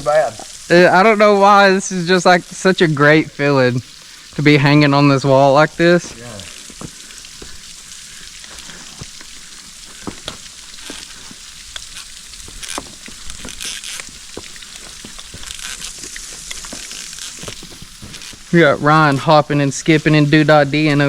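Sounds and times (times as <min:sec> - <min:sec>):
waterfall hiss: 0:00.0 - 0:21.0.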